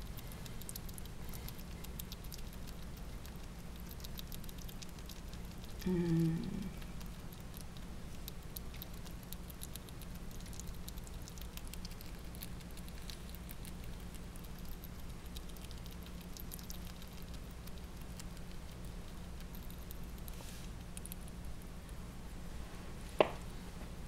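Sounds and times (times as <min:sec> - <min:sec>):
rat chewing clicks: 0:00.0 - 0:22.3
steady low hum: 0:00.0 - 0:24.0.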